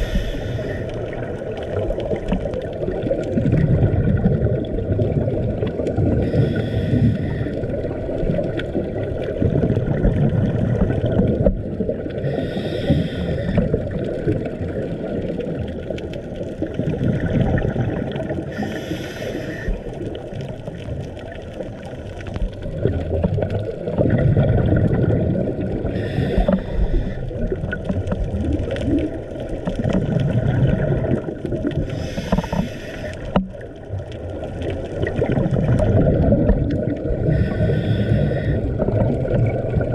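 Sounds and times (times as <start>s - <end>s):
diver exhaling bubbles: 0.0s - 21.3s, 22.5s - 39.9s
low underwater rumble: 0.0s - 39.9s.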